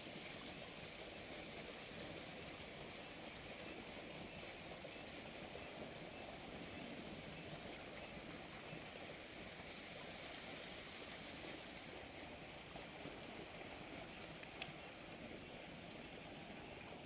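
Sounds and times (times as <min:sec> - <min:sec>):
water rushing and churning: 0:00.0 - 0:17.0.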